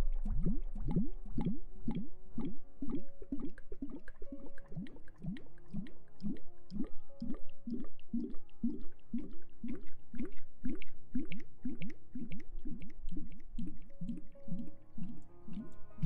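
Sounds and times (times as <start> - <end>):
small wet clicks: 0.0 - 16.0.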